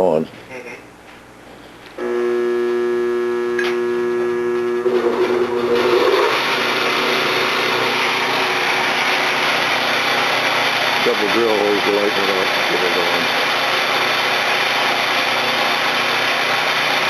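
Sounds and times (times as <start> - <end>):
drill bit grinding steel: 2.0 - 16.8
drill motor humming: 2.0 - 17.0.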